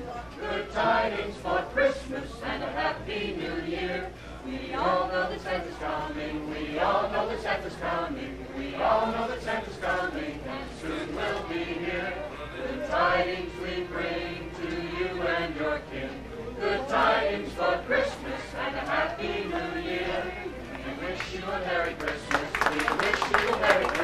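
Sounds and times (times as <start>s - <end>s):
mixed choir singing a carol: 0.0s - 24.0s.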